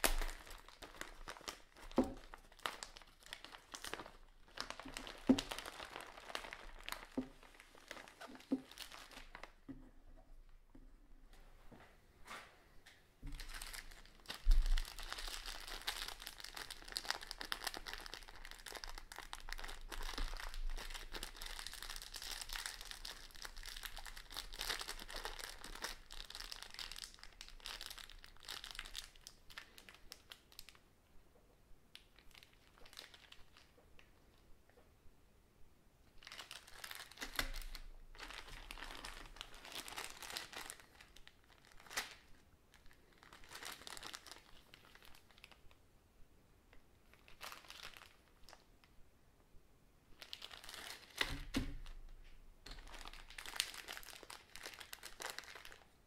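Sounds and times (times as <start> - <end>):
plastic bags crinkling: 0.0 - 9.7, 13.2 - 30.8, 31.9 - 34.1, 36.2 - 45.7, 47.1 - 48.6, 50.2 - 56.0.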